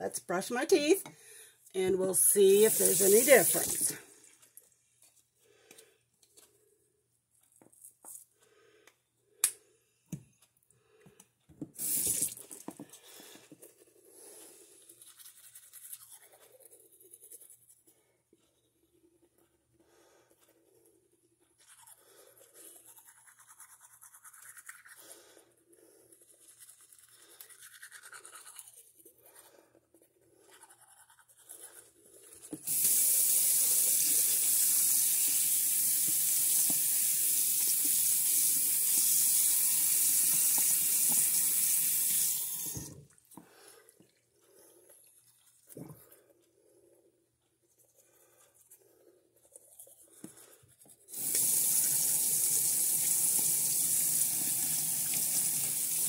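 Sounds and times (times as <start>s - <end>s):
toothbrush scrubbing teeth: 1.8s - 4.7s, 11.8s - 46.6s, 47.4s - 56.0s.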